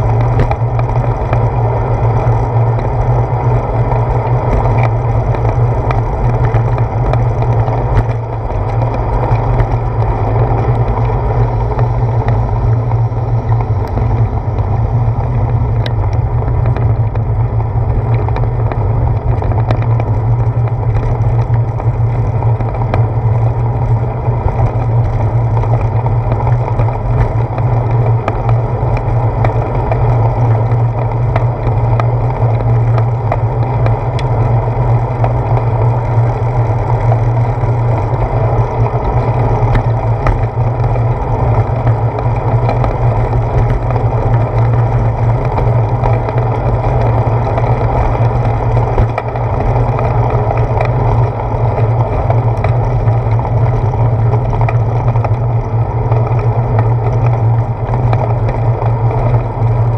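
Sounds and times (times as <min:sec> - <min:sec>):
bicycle tyre rumble: 0:00.0 - 0:59.9
faint bike ticks: 0:00.0 - 0:59.9.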